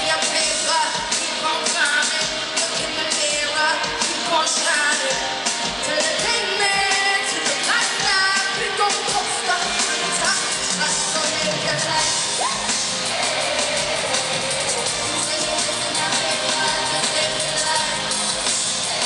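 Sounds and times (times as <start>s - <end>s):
drum beat: 0.0s - 19.0s
live band playing pop song: 0.0s - 19.0s
woman singing: 0.0s - 19.0s.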